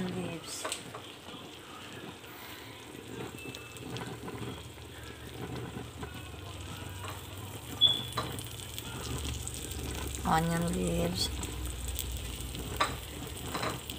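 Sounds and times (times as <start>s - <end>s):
food sizzling in frying pan: 0.0s - 13.9s.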